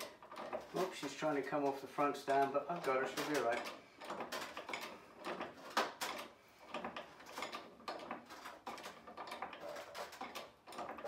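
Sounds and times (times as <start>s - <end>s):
hydraulic jack clunking and creaking: 0.0s - 11.0s.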